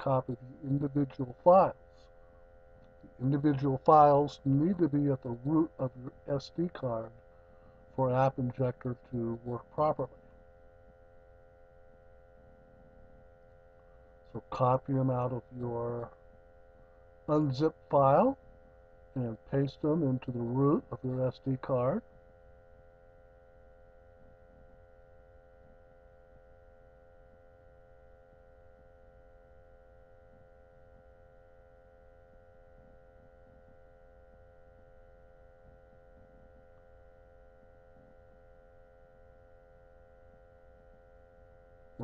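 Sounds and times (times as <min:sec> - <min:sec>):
faint electrical hum: 0:00.0 - 0:42.0.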